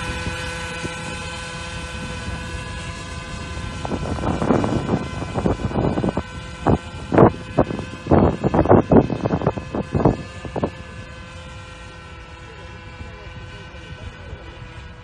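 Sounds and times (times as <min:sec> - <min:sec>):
model aircraft engine running: 0:00.0 - 0:15.0
wind buffeting microphone: 0:00.0 - 0:15.0.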